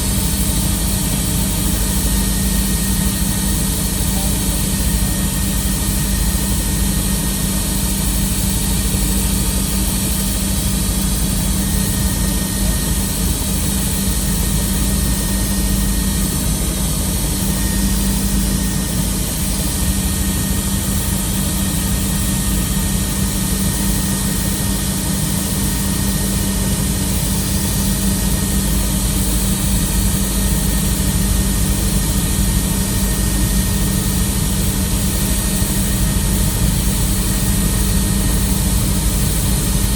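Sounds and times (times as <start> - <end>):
helicopter engine and rotors in cabin: 0.0 - 39.9.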